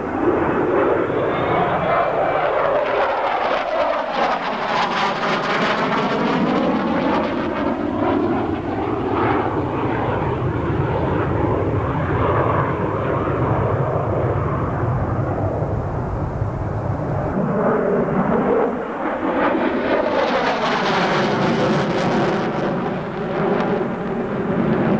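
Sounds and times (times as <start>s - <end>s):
fighter jet engine roar: 0.0s - 24.9s.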